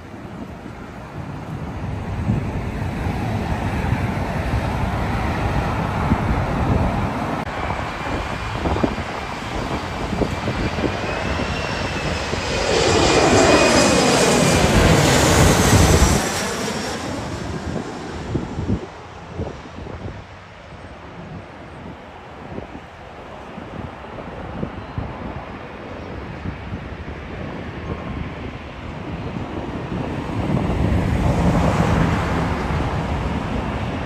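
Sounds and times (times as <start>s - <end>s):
high jet fan whine: 0.0s - 34.0s
jet airliner passing overhead: 0.0s - 34.0s.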